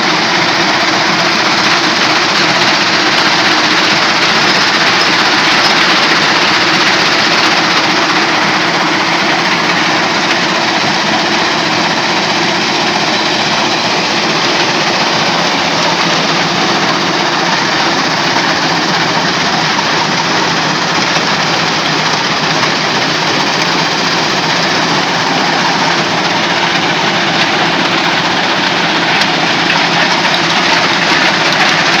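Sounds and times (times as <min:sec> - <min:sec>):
engine hum: 0:00.0 - 0:32.0
stone crusher machine running: 0:00.0 - 0:32.0.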